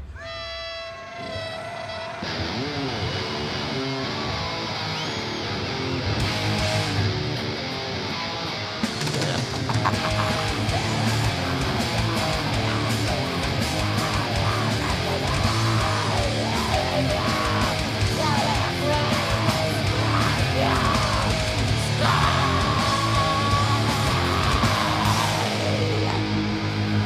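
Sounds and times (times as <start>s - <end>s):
heavy metal band playing live: 0.0s - 27.0s
loud electric guitars: 0.0s - 27.0s.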